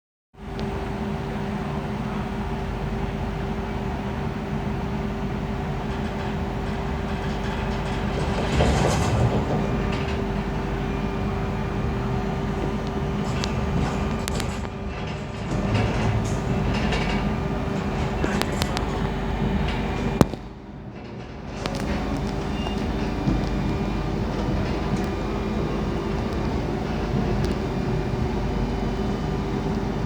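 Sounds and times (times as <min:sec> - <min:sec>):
electric train traction whine: 0:00.4 - 0:30.0
train rumble: 0:00.4 - 0:30.0.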